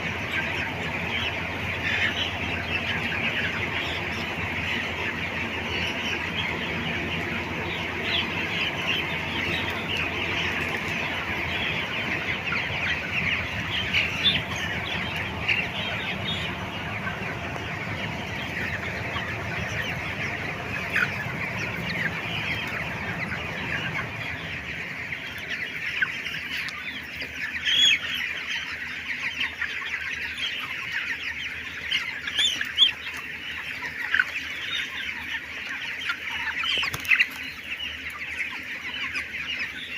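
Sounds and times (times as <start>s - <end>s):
low background hum: 0.0s - 39.8s
chickens clucking: 0.0s - 39.9s.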